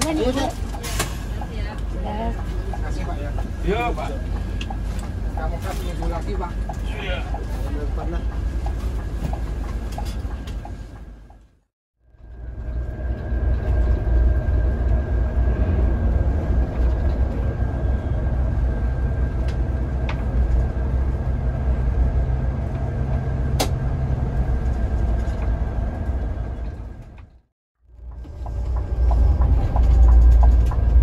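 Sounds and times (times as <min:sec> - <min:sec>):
bus diesel engine drone: 0:00.0 - 0:31.0
road rumble: 0:00.0 - 0:31.0.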